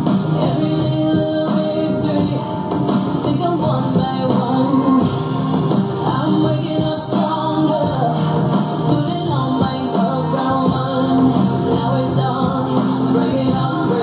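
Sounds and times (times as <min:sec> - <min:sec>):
pop song through speakers: 0:00.0 - 0:14.0.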